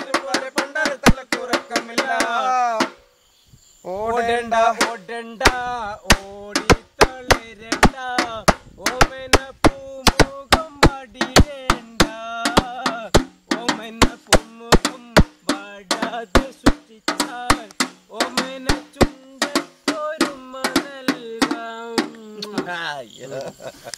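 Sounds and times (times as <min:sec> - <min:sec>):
men singing folk song: 0:00.0 - 0:03.0, 0:03.9 - 0:22.9
sharp percussive beats: 0:00.0 - 0:03.1, 0:04.7 - 0:22.8.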